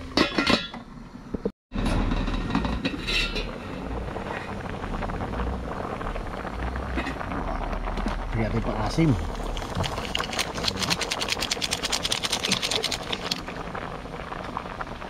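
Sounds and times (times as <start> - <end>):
broth boiling in pot: 1.8 - 15.0.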